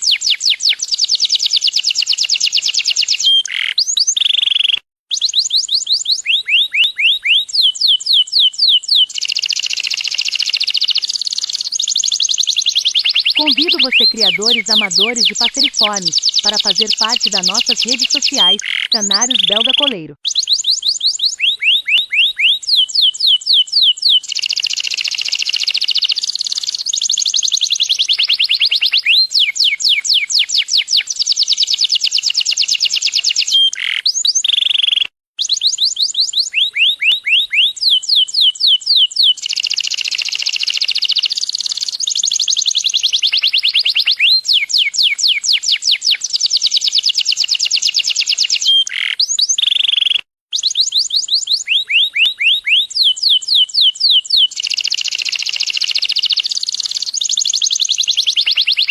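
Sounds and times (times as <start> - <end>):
canary singing trills: 0.0 - 47.0, 47.8 - 58.9.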